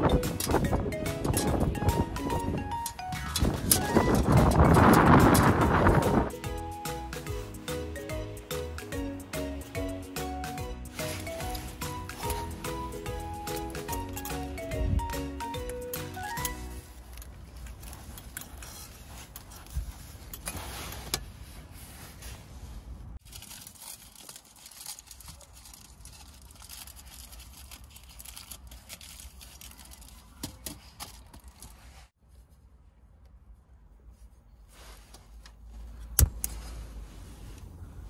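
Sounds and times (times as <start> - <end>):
handling clicks and rustles: 0.0 - 8.2, 8.8 - 32.6, 34.1 - 38.0.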